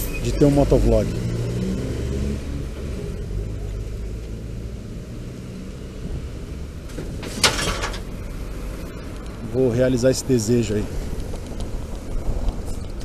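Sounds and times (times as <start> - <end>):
road and traffic noise: 0.0 - 13.0
vehicle engine hum: 0.0 - 13.0.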